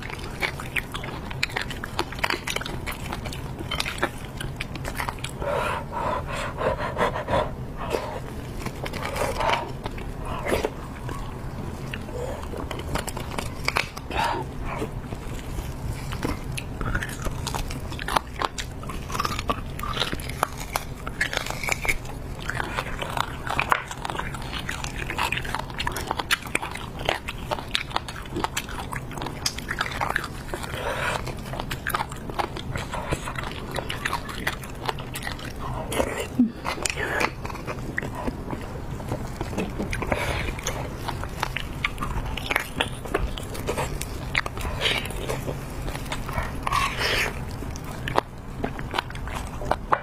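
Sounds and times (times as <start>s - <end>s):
chewing meat: 0.0s - 50.0s.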